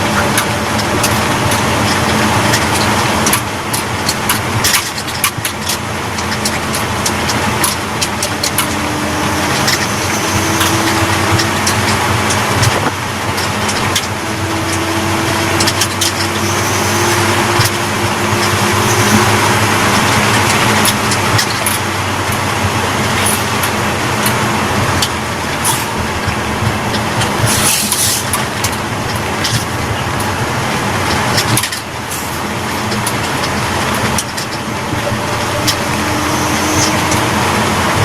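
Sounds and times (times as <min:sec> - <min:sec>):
pickup engine and exhaust rush: 0:00.0 - 0:38.0.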